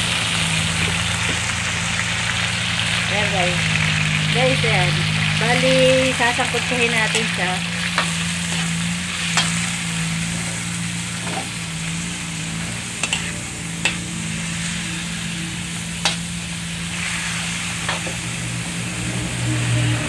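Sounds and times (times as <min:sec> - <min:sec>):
meat and onions sizzling in a wok: 0:00.0 - 0:20.0.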